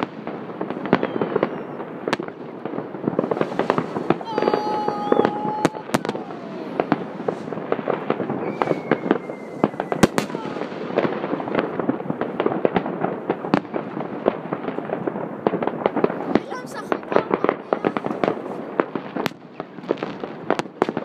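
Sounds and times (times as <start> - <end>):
fireworks and firecrackers crackling: 0.0 - 21.0
sharp loud firework bangs: 0.0 - 21.0.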